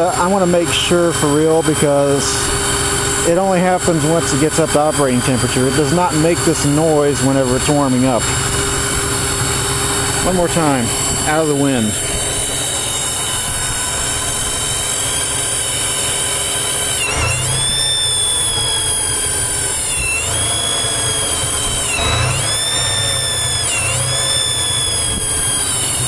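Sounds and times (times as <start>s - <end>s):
engine running: 0.0s - 26.0s
high-pitched whistling squeal: 0.0s - 26.0s.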